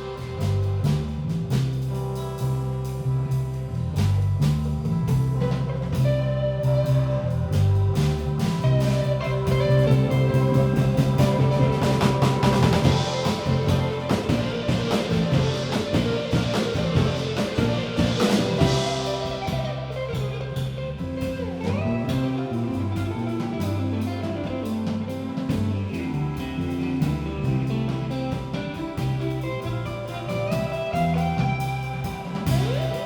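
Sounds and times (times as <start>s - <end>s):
bass line: 0.0s - 33.0s
drum kit: 0.0s - 33.0s
electric guitar: 0.0s - 33.0s.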